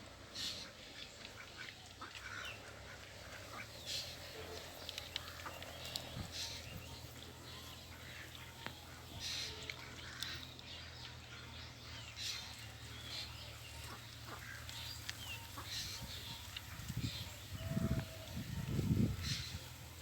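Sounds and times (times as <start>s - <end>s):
ducks calling: 0.4s - 20.0s.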